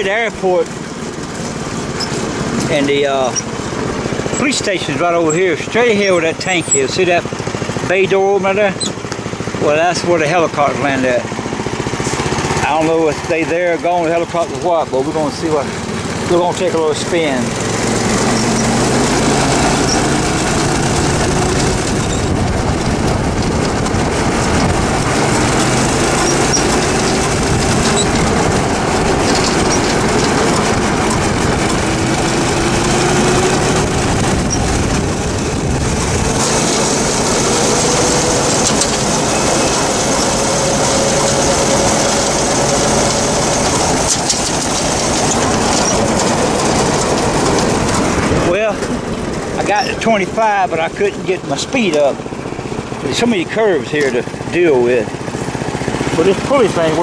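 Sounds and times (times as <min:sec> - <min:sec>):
go-kart engine revving: 0:00.0 - 0:57.0
rush of wind and road noise: 0:00.0 - 0:57.0.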